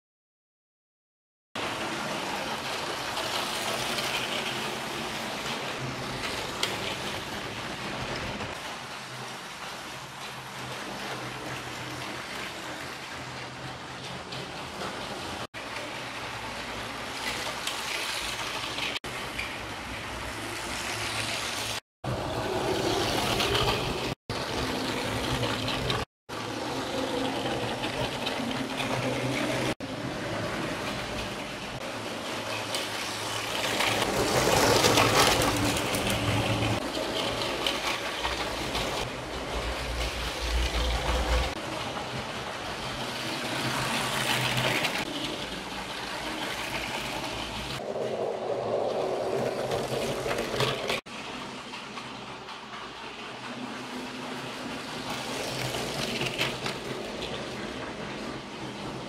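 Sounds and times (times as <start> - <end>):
wheels rattling on rails: 1.6 - 59.0.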